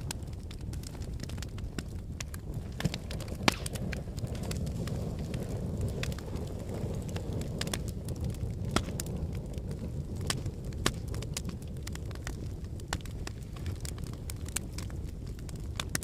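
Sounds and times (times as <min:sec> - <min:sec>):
fire flames rumbling: 0:00.0 - 0:16.0
wood crackling and popping: 0:00.0 - 0:16.0.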